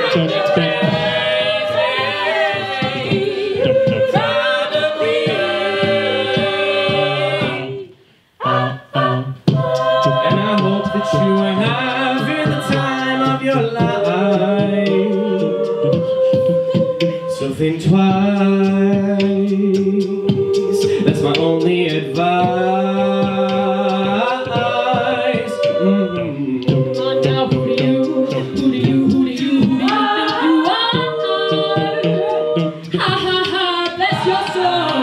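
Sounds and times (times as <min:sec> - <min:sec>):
a cappella group singing: 0:00.0 - 0:35.0
vocal percussion: 0:00.0 - 0:35.0.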